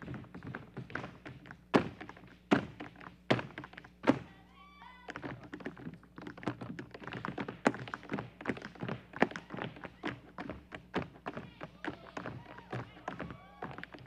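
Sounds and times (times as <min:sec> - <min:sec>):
feet stomping on stage floor: 0:00.0 - 0:04.3, 0:05.1 - 0:14.0
rapid tap dance taps: 0:00.0 - 0:04.3, 0:05.0 - 0:14.0.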